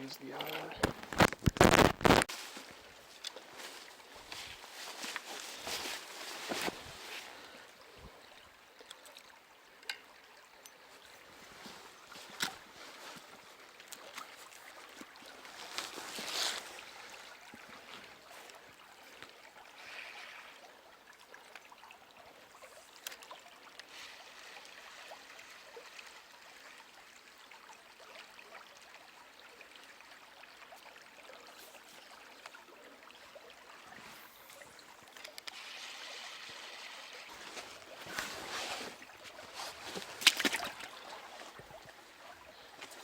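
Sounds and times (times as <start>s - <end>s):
stream water trickling: 0.0s - 43.0s.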